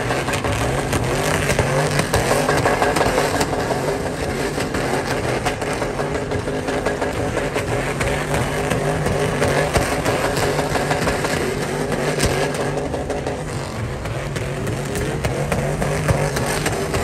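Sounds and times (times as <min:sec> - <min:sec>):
truck engines revving high: 0:00.0 - 0:17.0.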